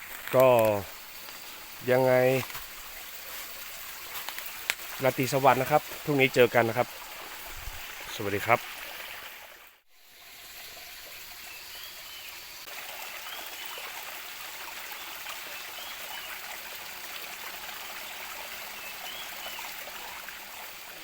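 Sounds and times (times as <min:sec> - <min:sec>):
stream trickling: 0:00.0 - 0:21.0.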